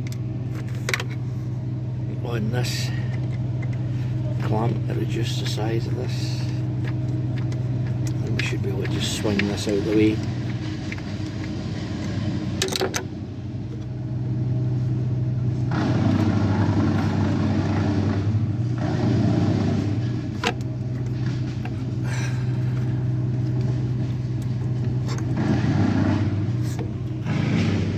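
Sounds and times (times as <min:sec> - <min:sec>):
motor humming: 0:00.0 - 0:27.9.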